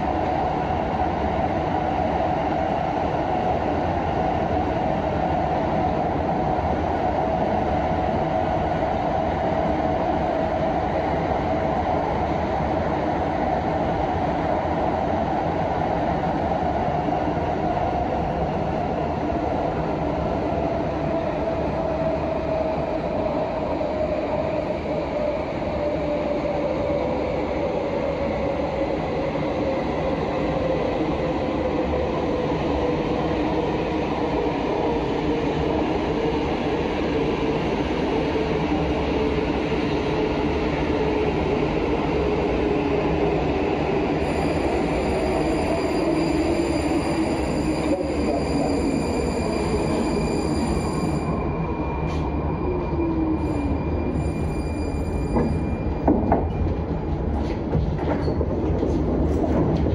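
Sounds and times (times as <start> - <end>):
wheels rumbling on rail: 2.3 - 59.9.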